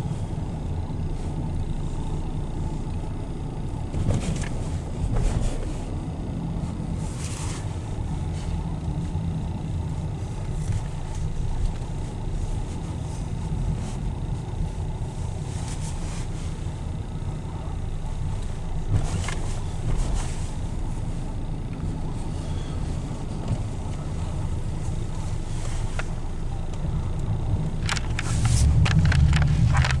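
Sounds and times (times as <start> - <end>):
engine and tyre rumble in car: 0.0 - 30.0.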